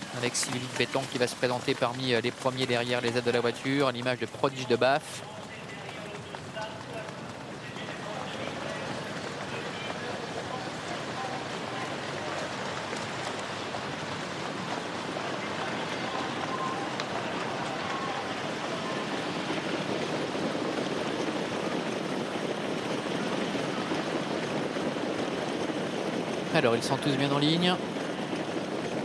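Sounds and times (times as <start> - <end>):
trotting horses and sulkies rushing: 0.0 - 29.0.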